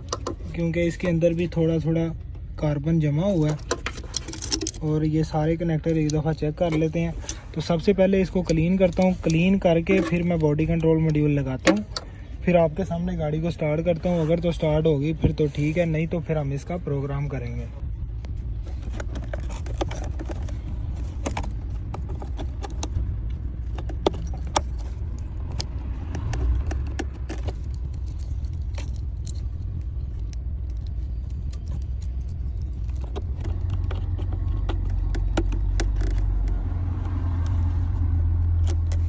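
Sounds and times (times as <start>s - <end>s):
low engine-like rumble: 0.0s - 39.0s.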